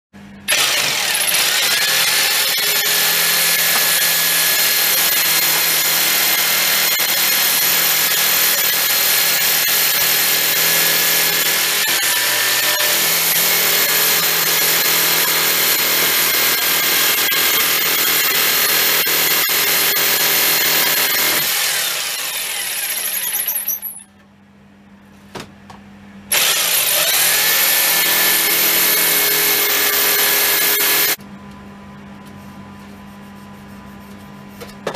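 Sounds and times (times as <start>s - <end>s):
electric drill whining: 0.5s - 24.0s, 26.3s - 31.2s.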